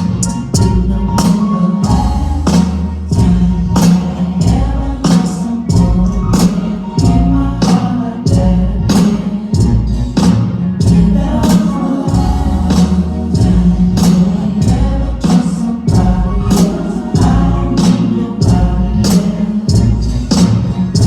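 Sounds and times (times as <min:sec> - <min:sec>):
loud music with heavy bass: 0:00.0 - 0:21.0
singing: 0:00.0 - 0:21.0.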